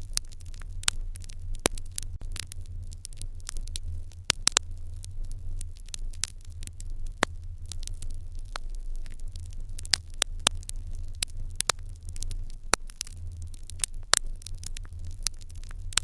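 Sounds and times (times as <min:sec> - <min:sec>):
fire crackling and popping: 0:00.0 - 0:16.0
steady low hum: 0:00.0 - 0:16.0.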